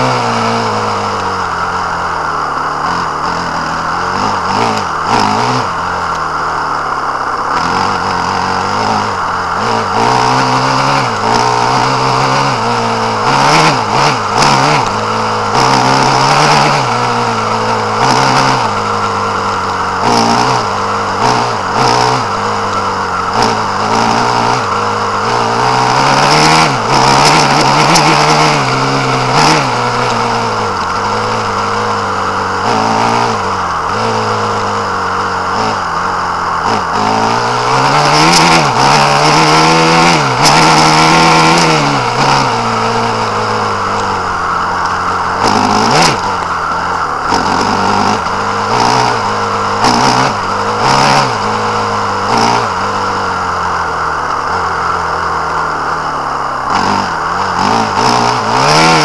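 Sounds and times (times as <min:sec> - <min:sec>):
small engine revving: 0:00.0 - 0:59.0.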